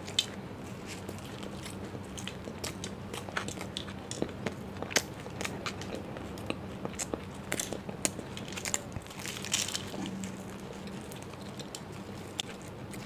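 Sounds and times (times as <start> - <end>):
crunchy pastry chewing: 0.0 - 13.0.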